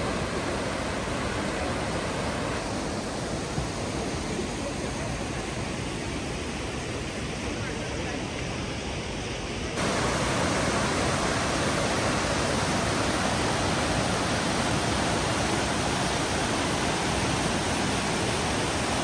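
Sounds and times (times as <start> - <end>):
creek rushing over rocks: 0.0 - 7.6, 9.8 - 19.0.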